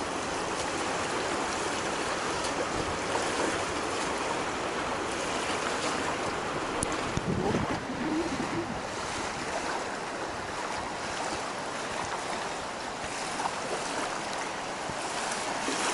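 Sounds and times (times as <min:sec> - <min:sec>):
river water rushing: 0:00.0 - 0:15.9.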